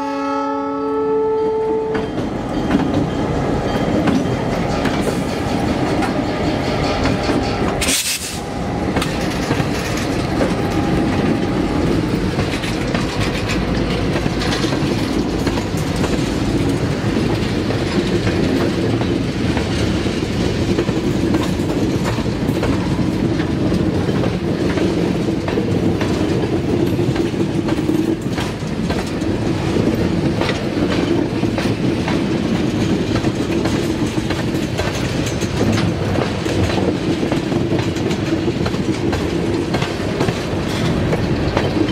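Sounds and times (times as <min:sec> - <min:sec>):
freight train rolling past: 0:00.0 - 0:41.9
wheels clicking over rail joints: 0:01.9 - 0:41.9.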